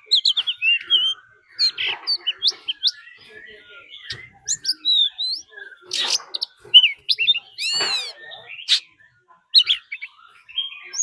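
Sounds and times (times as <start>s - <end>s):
bird whistling song: 0.0s - 11.0s.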